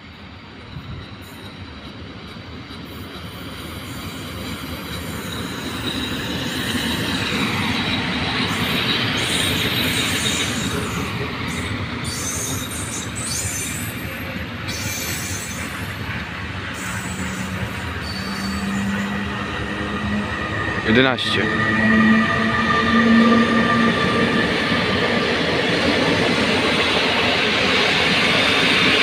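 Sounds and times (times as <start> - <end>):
train running: 0.0 - 29.0
wheels squealing on rails: 0.5 - 29.0.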